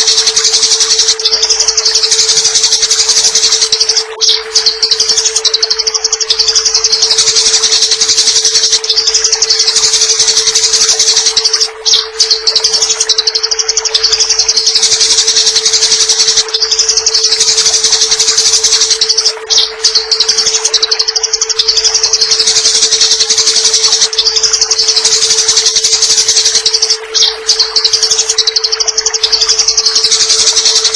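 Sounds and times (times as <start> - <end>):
sparrows chattering: 0.0 - 30.9
steady low hum: 0.0 - 30.9
water: 0.0 - 30.9.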